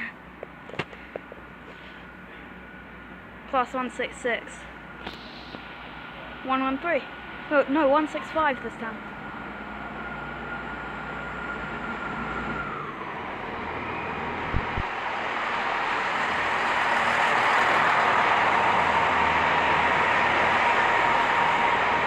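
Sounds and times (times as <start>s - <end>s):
diesel train running noise: 0.0s - 22.0s
train whine: 0.0s - 22.0s.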